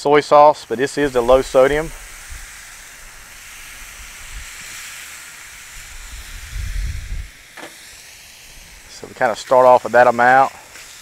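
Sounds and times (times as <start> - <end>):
rice sizzling on a griddle: 0.0 - 11.0.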